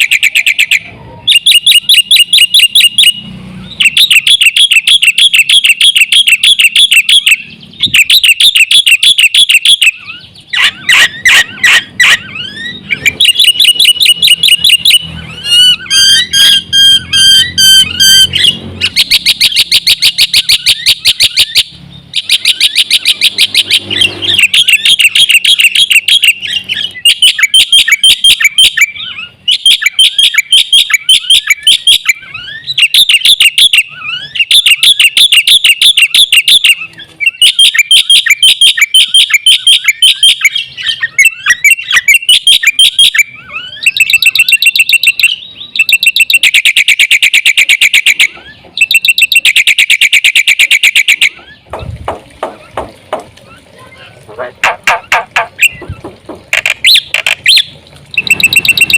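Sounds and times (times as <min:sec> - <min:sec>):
starling singing rapid chirps: 0:00.0 - 0:58.9.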